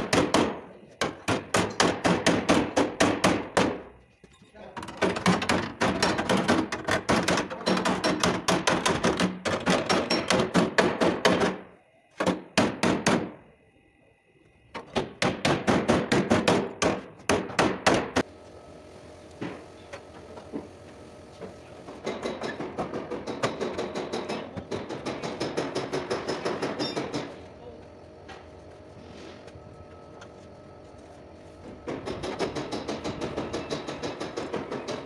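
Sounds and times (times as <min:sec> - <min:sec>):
workshop background noise: 0:00.0 - 0:35.0.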